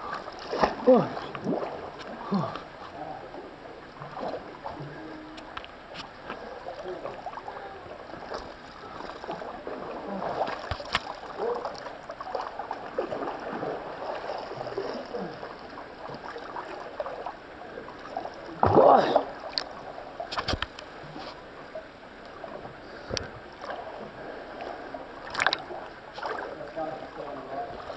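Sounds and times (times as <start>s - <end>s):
water splashing and sloshing: 0.0s - 27.9s.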